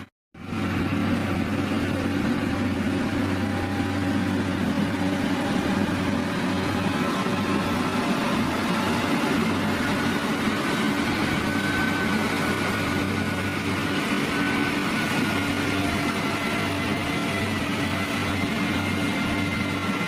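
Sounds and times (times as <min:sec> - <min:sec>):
heavy machinery engine drone: 0:00.0 - 0:20.0.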